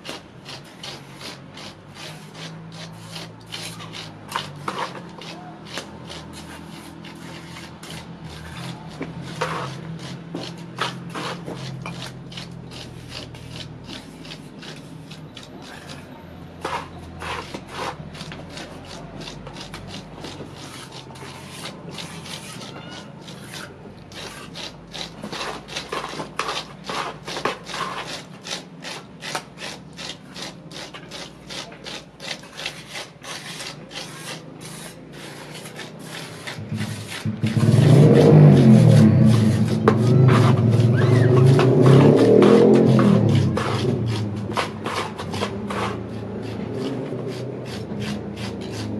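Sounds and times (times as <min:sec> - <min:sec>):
scraping fresh cement render: 0:00.0 - 0:48.9.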